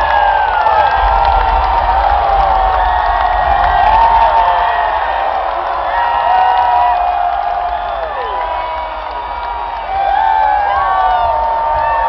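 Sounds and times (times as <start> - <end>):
concert crowd cheering and screaming: 0.0 - 12.0.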